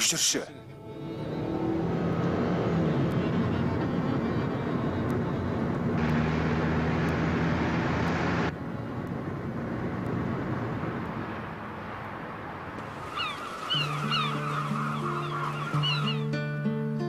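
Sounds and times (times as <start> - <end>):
car engine and road noise: 0.7 - 17.0
car passing close: 0.8 - 16.5.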